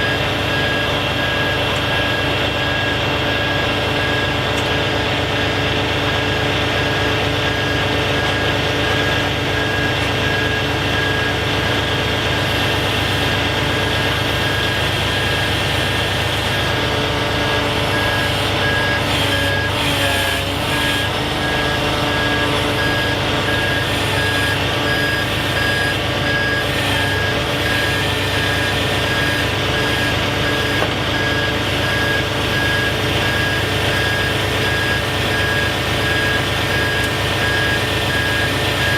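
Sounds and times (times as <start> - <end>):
diesel truck engine running: 0.0 - 38.9
truck back-up alarm beeping: 0.0 - 38.9.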